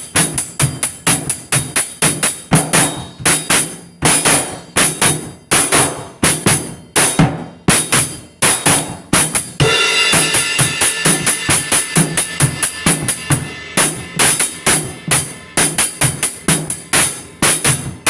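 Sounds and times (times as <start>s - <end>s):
drum beat: 0.0s - 18.0s.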